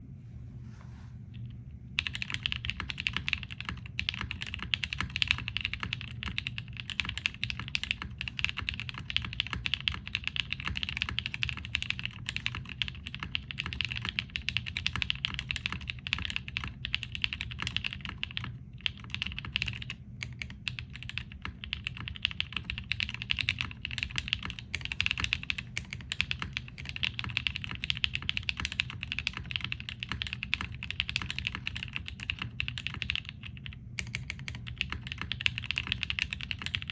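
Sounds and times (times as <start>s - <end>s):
fast typing on mechanical keyboard: 2.0s - 36.9s.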